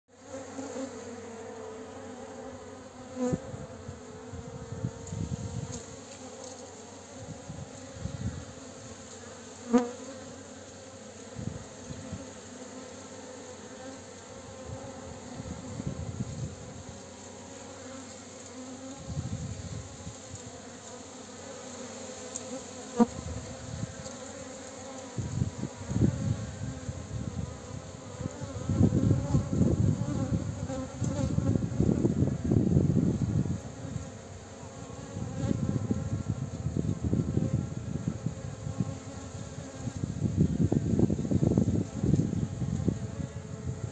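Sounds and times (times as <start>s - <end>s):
bee buzzing: 0.1s - 43.9s.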